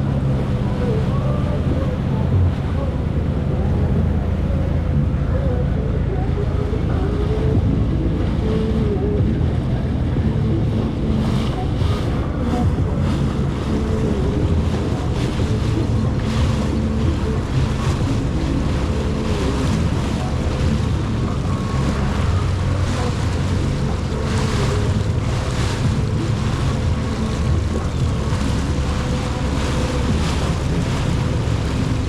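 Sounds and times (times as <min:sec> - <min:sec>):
jet ski engine running: 0:00.0 - 0:32.0
water spray splashing: 0:00.0 - 0:32.0
wind buffeting microphone: 0:00.0 - 0:32.0.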